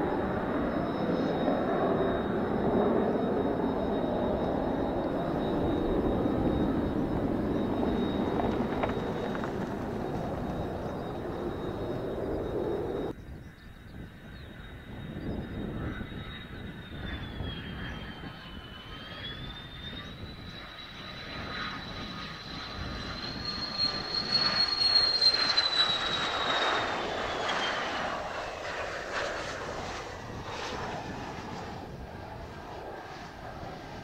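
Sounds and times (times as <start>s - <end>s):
jet engine whine: 0.0s - 34.0s.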